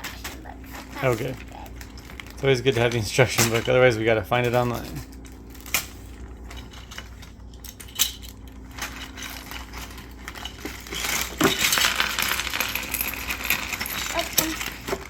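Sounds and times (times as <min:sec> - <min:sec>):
plastic pieces clattering: 0:00.0 - 0:15.0.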